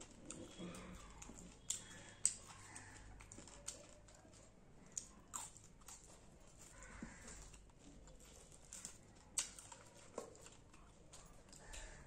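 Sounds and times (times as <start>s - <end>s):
chewing with clicks and smacks: 0.0s - 12.0s.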